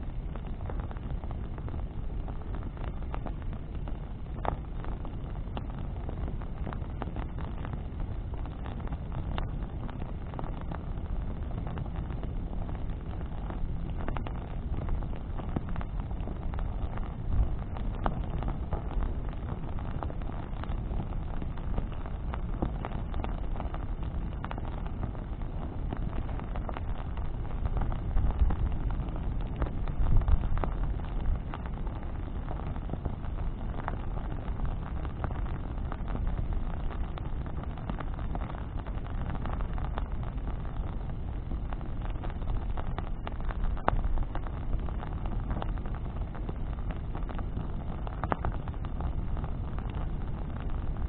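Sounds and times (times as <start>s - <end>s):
bonfire crackling and popping: 0.0s - 51.0s
low steady rumble: 0.0s - 51.0s.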